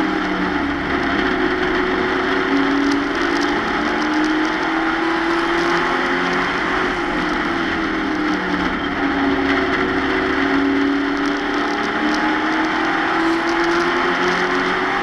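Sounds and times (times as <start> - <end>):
race truck engine at high revs: 0.0 - 15.0
road and wind noise: 0.0 - 15.0.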